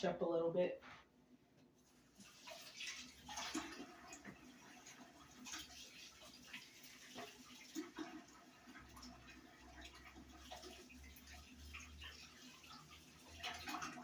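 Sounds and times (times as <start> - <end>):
running tap water splashing: 1.8 - 14.0.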